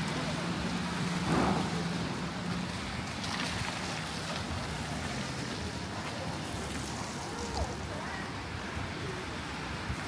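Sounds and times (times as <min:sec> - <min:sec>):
wet traffic noise: 0:00.0 - 0:10.0.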